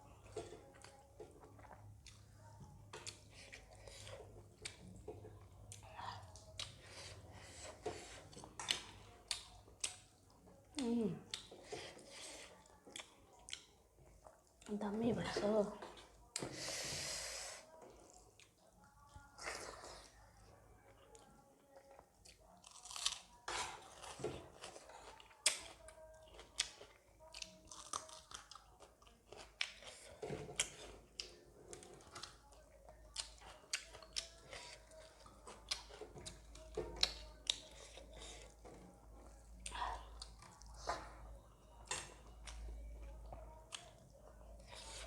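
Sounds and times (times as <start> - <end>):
close chewing mouth sounds: 0.1 - 16.8, 17.7 - 45.0.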